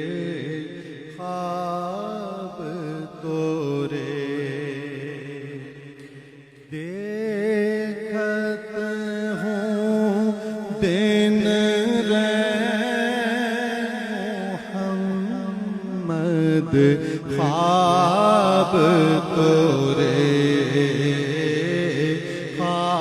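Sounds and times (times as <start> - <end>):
lead voice singing long notes: 0.0 - 23.0.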